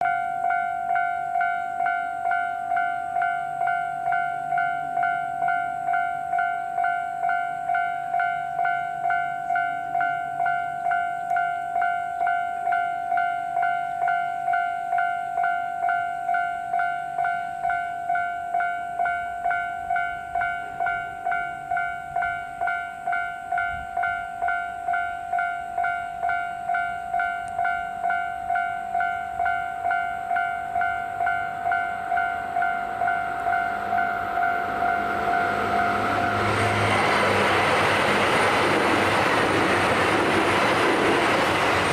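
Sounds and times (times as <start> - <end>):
level crossing warning bell ringing: 0.0 - 41.9.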